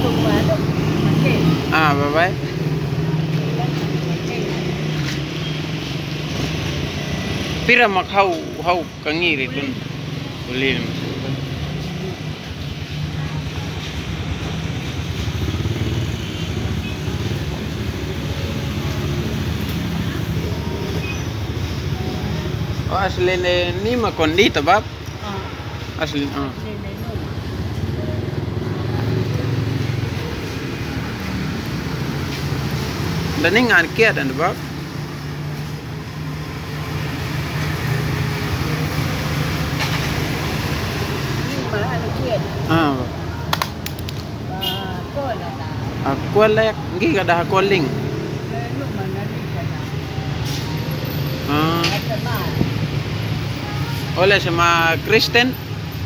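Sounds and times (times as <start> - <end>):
road traffic: 0.0 - 56.0
vehicle engines rumbling: 0.0 - 56.0.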